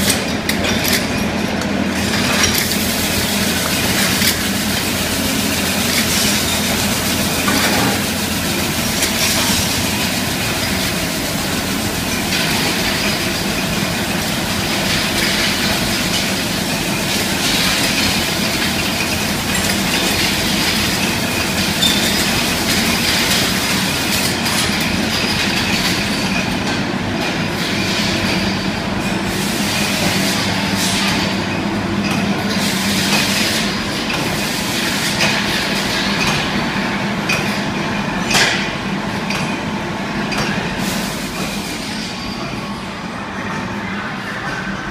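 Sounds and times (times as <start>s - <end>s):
bottling machine clatter and hum: 0.0s - 44.9s.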